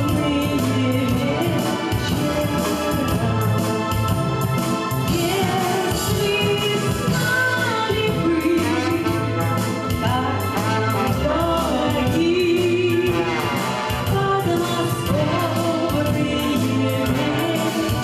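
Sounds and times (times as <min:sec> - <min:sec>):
woman singing into a microphone: 0:00.0 - 0:04.0, 0:05.0 - 0:18.0
instrumental accompaniment with bass: 0:00.0 - 0:18.0.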